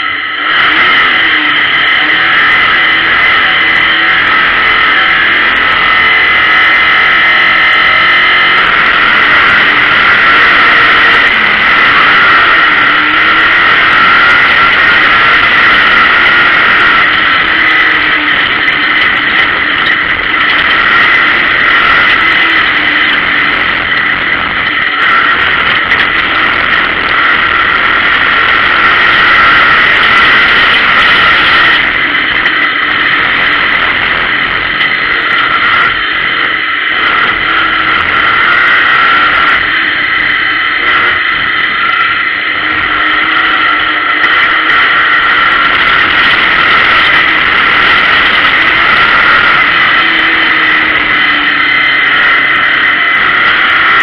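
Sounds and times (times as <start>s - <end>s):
mechanical and road noise: 0.0s - 54.0s
race car engine revving: 0.0s - 54.0s.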